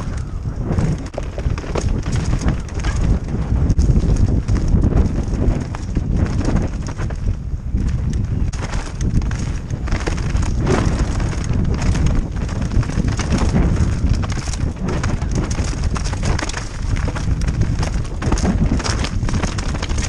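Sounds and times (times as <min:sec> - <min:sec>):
bike knocking and rattling: 0:00.0 - 0:20.0
wind buffeting microphone: 0:00.0 - 0:20.0.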